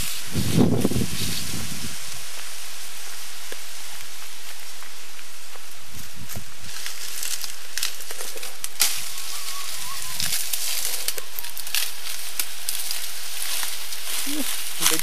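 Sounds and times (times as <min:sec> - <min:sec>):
dry leaves crackling underfoot: 0:00.0 - 0:15.0
steady hiss: 0:00.0 - 0:15.0.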